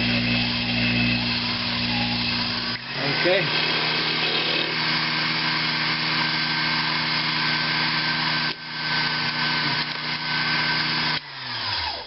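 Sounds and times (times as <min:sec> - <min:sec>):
drill bit cutting metal hiss: 0:00.0 - 0:12.0
lathe motor hum: 0:00.0 - 0:12.0.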